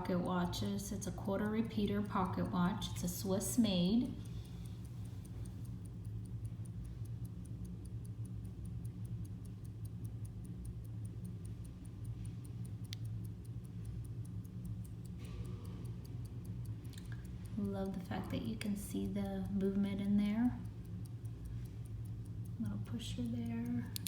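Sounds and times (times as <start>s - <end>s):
pocket watch ticking: 0.0s - 24.0s.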